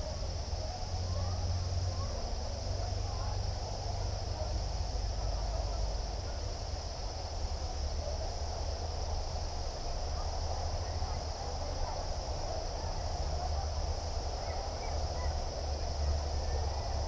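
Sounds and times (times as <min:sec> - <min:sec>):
chorus of crickets: 0:00.0 - 0:17.0.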